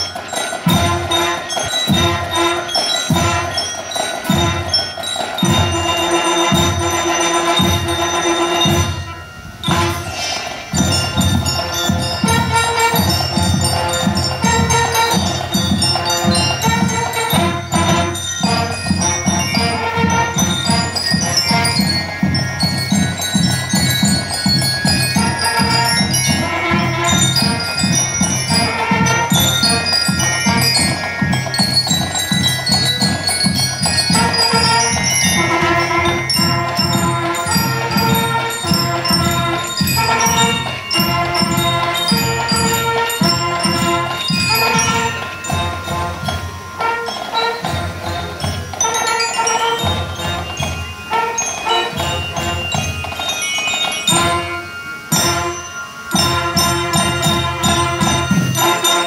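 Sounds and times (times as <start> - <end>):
bell lyres melody: 0.0 - 59.0
marching drums beat: 0.0 - 59.0
trumpets: 0.0 - 59.0.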